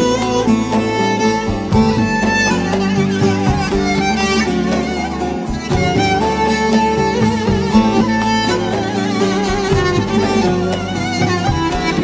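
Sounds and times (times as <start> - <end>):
violin music: 0.0 - 12.0.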